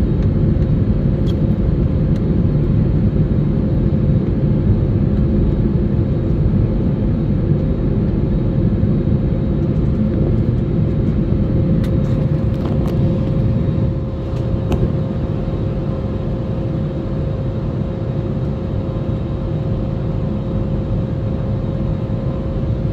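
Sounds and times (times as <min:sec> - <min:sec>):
airliner cabin rumble: 0:00.0 - 0:22.9
steady whine: 0:00.0 - 0:22.9.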